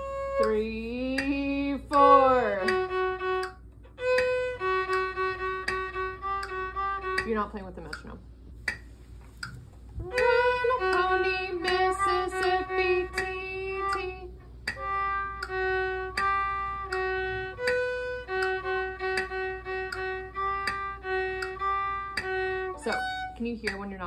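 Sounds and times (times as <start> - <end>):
violin short notes: 0.0 - 8.0, 10.0 - 24.0
metronome clicking: 0.0 - 24.0.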